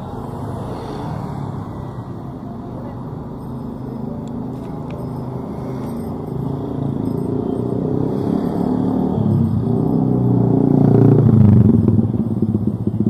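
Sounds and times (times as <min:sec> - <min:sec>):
cars and motorbikes passing: 0:00.0 - 0:13.0.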